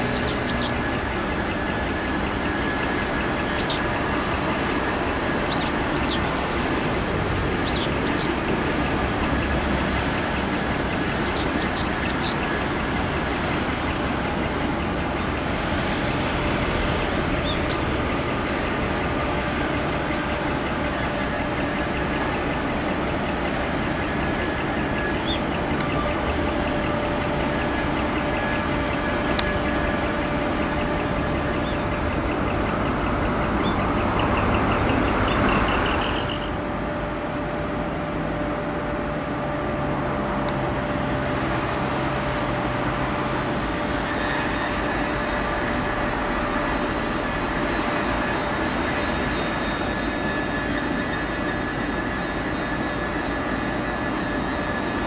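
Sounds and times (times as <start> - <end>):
mechanical drone with hum tones: 0.0 - 55.0.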